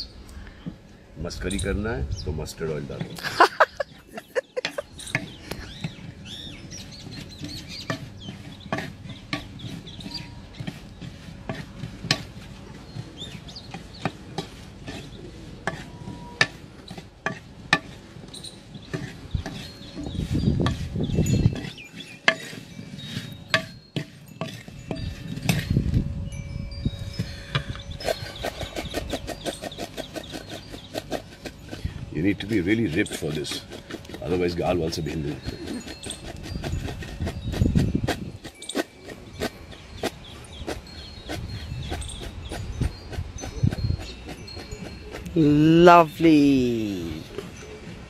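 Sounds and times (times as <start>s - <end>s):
metal spoon stirring onions in bowl: 4.0s - 25.9s, 27.9s - 47.2s.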